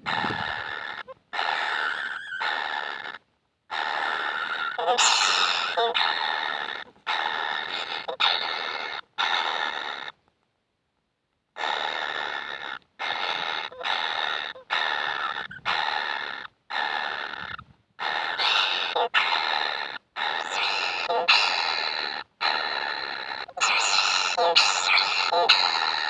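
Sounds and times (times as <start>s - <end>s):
bird chick harsh begging calls: 0.0s - 10.1s, 11.6s - 26.0s.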